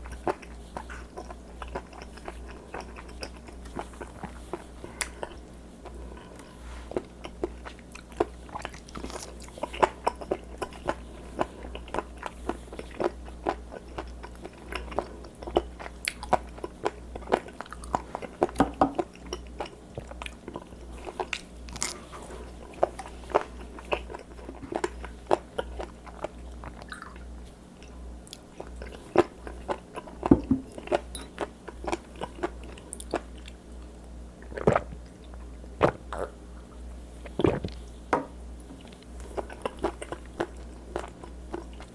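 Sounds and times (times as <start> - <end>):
chewing crunchy seafood: 0.0 - 38.0, 38.6 - 41.9.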